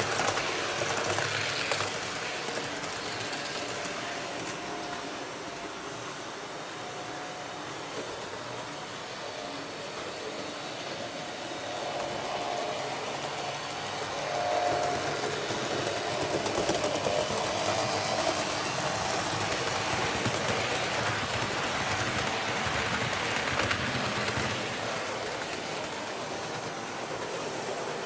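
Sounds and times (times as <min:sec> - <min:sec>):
wheels running on rails: 0:00.0 - 0:07.2, 0:07.8 - 0:28.0
model train motor whirring: 0:00.0 - 0:28.0.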